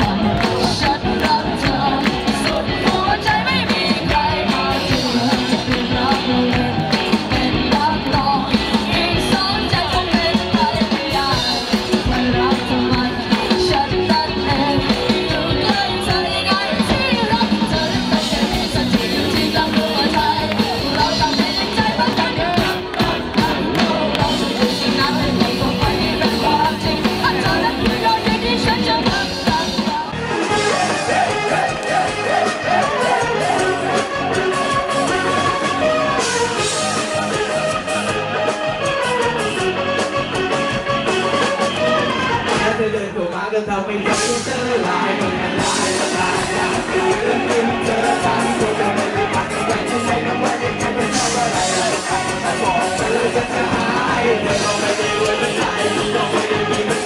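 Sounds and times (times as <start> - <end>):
drums: 0.0 - 57.0
electric bass: 0.0 - 57.0.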